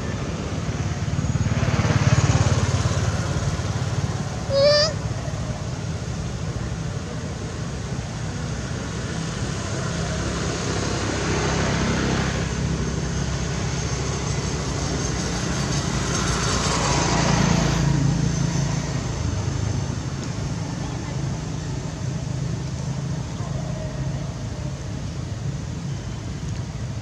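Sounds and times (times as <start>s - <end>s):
passing traffic engine rumble: 0.0s - 27.0s.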